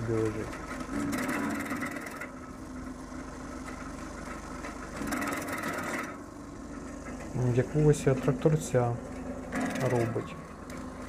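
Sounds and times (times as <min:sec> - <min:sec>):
chipper blades clattering: 0:00.0 - 0:11.0
tractor engine running: 0:00.0 - 0:11.0.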